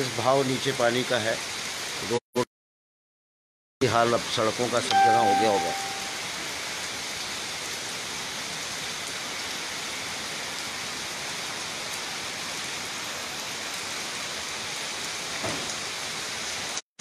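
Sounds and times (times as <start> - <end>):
heavy rain: 0.0 - 2.2, 3.8 - 16.8.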